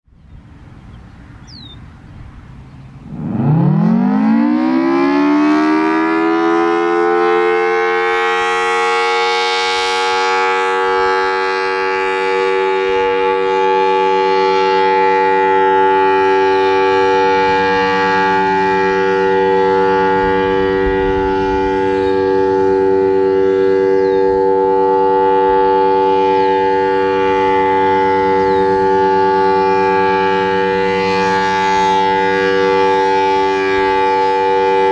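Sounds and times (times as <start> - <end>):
warning siren wailing: 0.2 - 34.9.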